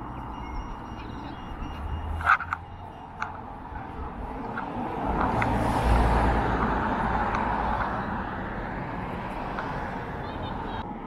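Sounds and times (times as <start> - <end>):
road vehicle passing: 0.0 - 11.0.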